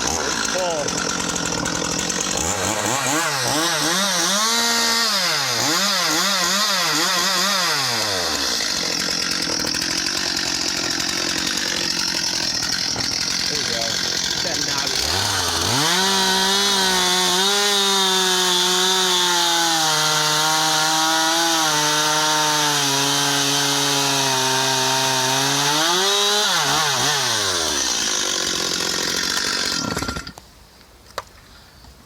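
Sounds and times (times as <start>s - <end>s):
chainsaw cutting at full throttle: 0.0s - 30.4s.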